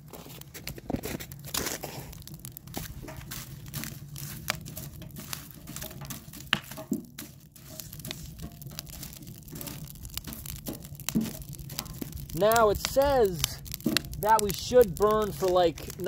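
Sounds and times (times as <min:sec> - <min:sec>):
stick knocking burning logs: 0:00.0 - 0:16.0
wood fire crackling: 0:00.0 - 0:16.0.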